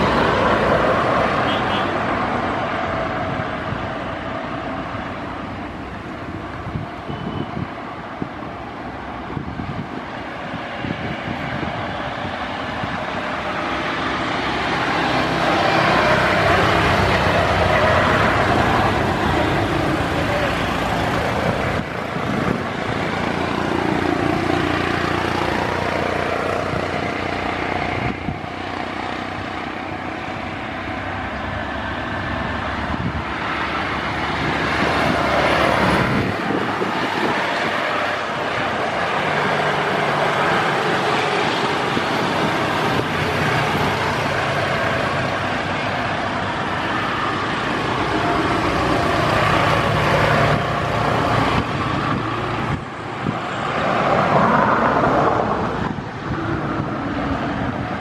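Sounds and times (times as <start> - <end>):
distant jet engine rush: 0.0 - 58.0.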